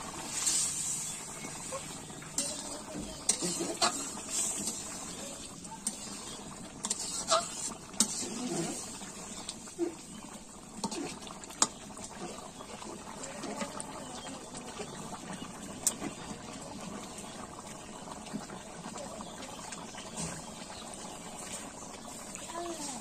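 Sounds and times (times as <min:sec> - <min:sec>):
curry bubbling in a wok: 0:00.0 - 0:23.0.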